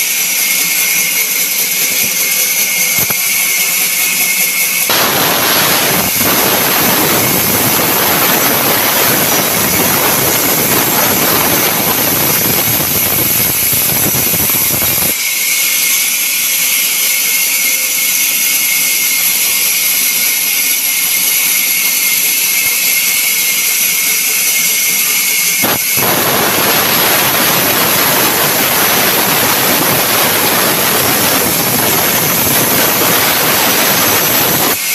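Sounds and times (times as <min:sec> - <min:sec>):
sawmill saw cutting timber: 0:00.0 - 0:34.9.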